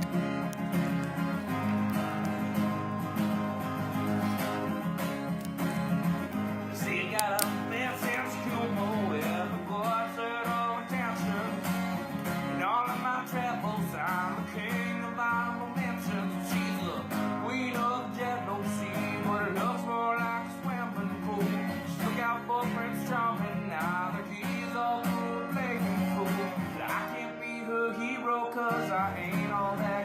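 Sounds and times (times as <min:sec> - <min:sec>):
country song: 0:00.0 - 0:30.0
strummed acoustic guitar: 0:00.0 - 0:30.0.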